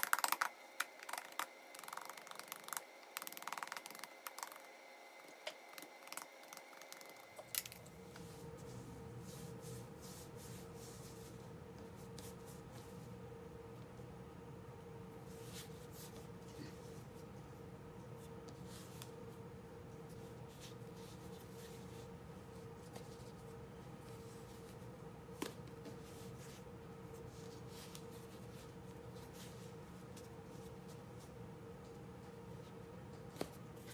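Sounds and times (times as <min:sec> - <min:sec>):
faint hum: 0:00.0 - 0:33.9.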